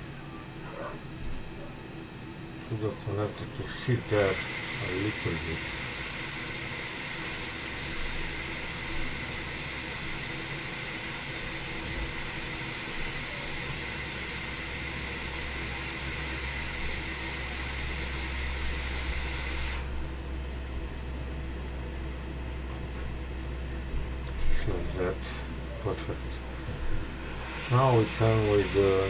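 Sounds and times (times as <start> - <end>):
hot air blower hissing with whine: 0.0 - 29.0.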